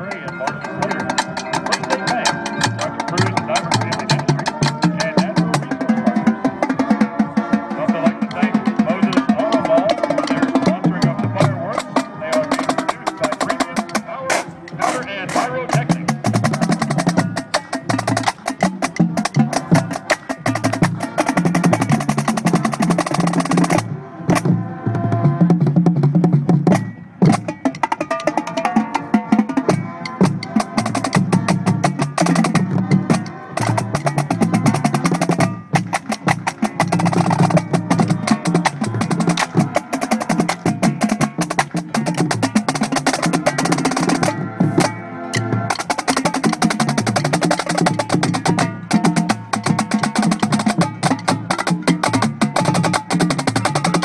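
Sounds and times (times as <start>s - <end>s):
tenor and bass drums: 0.0s - 54.0s.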